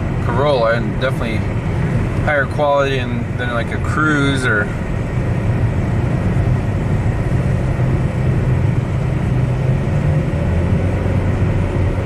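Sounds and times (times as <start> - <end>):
car engine running steadily: 0.0 - 12.0
road and tyre noise: 0.0 - 12.0.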